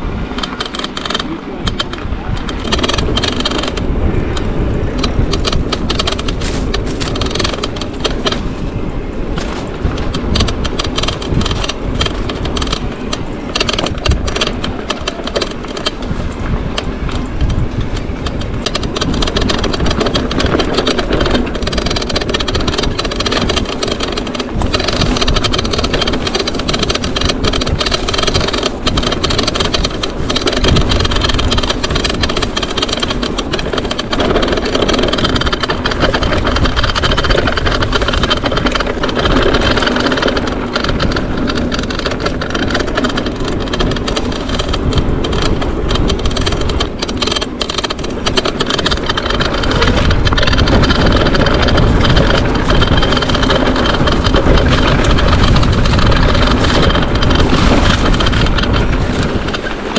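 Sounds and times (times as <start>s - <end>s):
bike parts rattling: 0.0s - 59.9s
bike tyre noise on trail: 0.0s - 59.9s.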